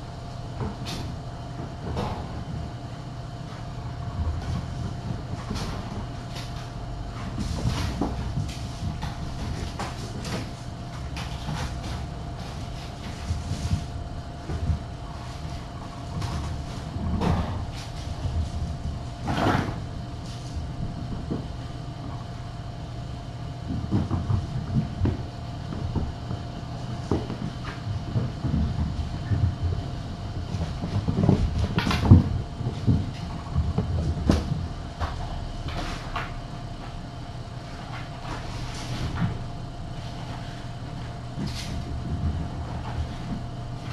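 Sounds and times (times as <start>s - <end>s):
steady low hum: 0.0s - 43.9s
kittens thumping on floor: 0.4s - 22.6s, 23.5s - 36.4s, 37.5s - 43.9s.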